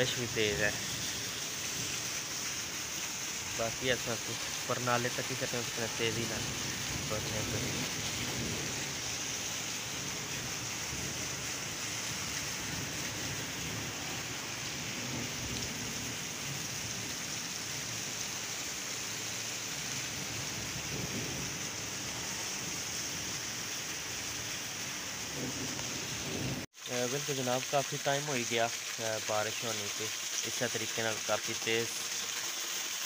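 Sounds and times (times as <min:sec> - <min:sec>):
heavy wind-driven rain: 0:00.0 - 0:26.7.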